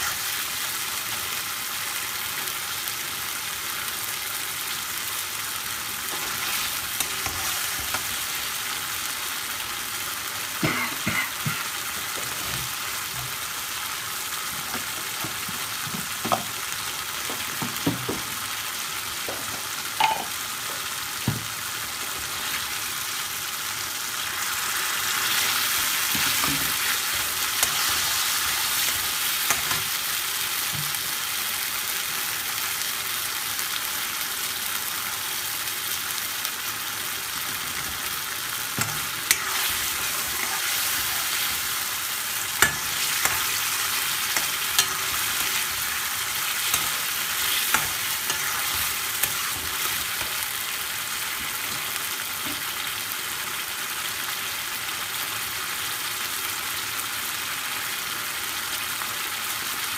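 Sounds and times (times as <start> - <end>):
curry sauce sizzling in a pan: 0.0 - 59.9.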